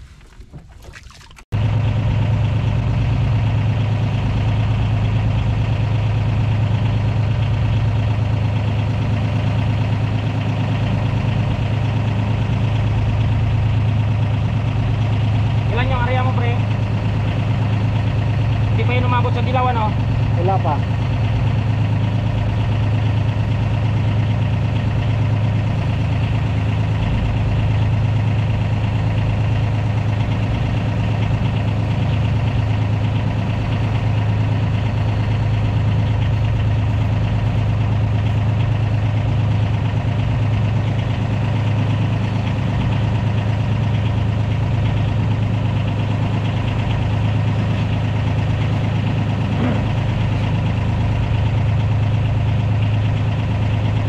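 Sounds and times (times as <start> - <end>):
boat engine humming: 0.0 - 54.0.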